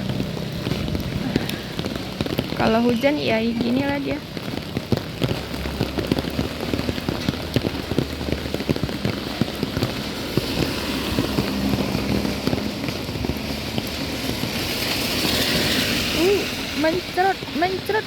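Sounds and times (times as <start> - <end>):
hiss of falling rain: 0.0 - 18.0
rain drops hitting umbrella: 0.0 - 18.0.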